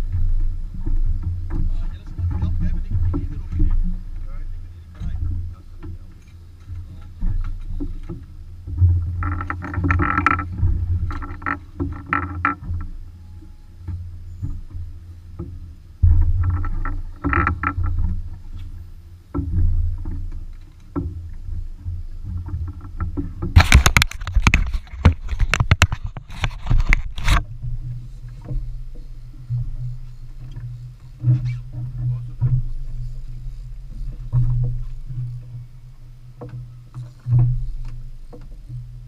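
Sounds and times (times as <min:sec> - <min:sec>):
boat engine low rumble: 0:00.0 - 0:39.0
water splashing against hull: 0:00.0 - 0:39.0.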